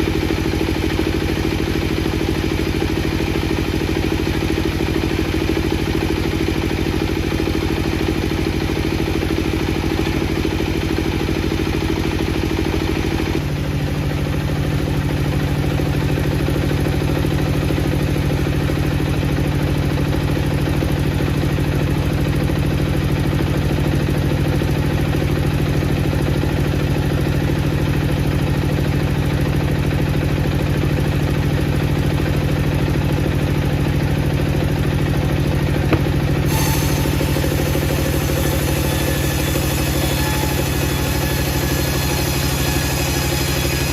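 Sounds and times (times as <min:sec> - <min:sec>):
wood-processing machinery drone: 0:00.0 - 0:43.9.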